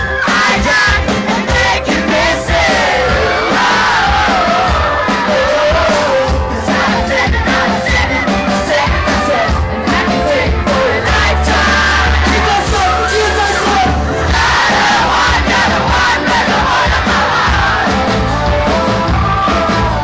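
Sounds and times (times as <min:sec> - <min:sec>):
crowd yelling and cheering: 0:00.0 - 0:20.0
heavy bass: 0:00.0 - 0:20.0
live pop band playing: 0:00.0 - 0:20.0
person singing: 0:00.0 - 0:20.0.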